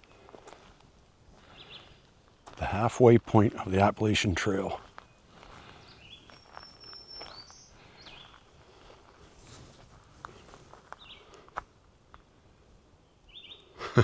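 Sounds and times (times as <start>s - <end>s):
songbirds chirping and whistling: 0.0s - 11.6s, 12.9s - 13.8s
light footsteps: 0.0s - 12.2s.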